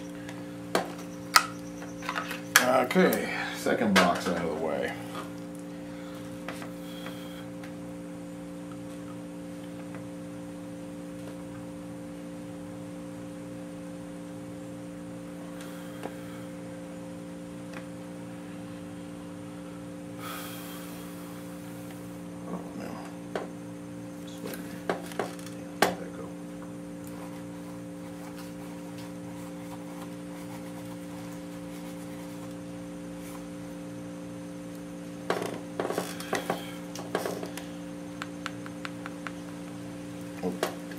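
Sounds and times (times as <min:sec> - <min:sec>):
steady tonal hum: 0:00.0 - 0:40.9.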